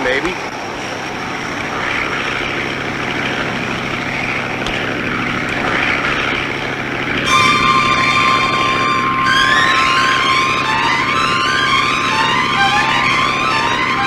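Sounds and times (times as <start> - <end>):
propeller airplane engine droning: 0.0 - 14.0
dramatic score music: 1.6 - 14.0.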